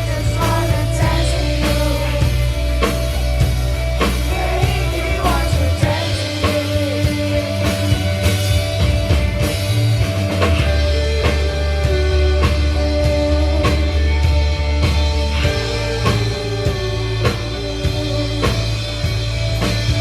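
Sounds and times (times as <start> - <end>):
drum kit beat: 0.0 - 20.0
heavy bass line: 0.0 - 20.0
live rock band playing: 0.0 - 20.0.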